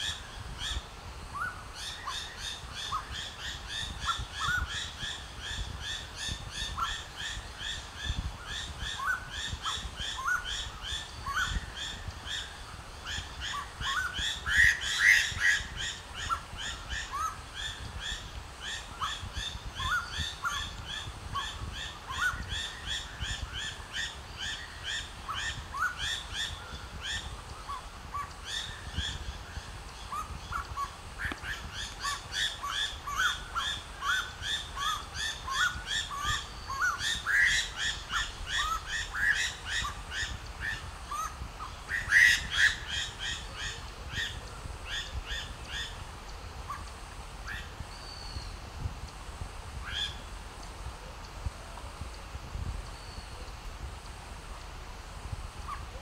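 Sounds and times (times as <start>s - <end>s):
bird chirping calls: 0.0s - 48.7s.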